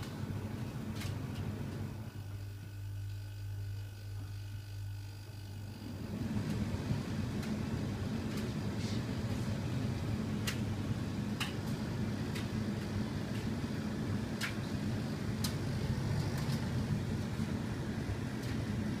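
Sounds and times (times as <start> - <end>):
tumble dryer humming: 0.0 - 19.0.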